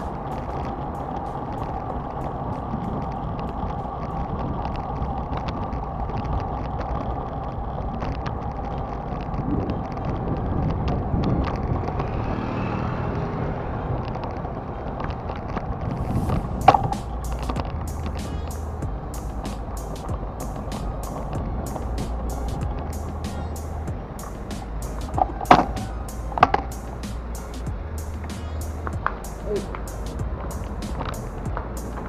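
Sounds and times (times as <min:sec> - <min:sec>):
bicycle rolling noise: 0:00.0 - 0:32.0
city traffic: 0:00.0 - 0:32.0.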